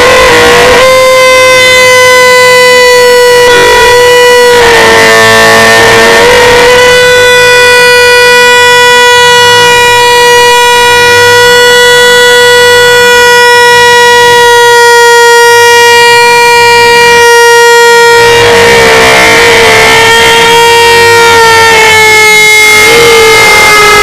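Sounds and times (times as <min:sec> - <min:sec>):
person holding nasal high-pitched note: 0:00.0 - 0:24.0.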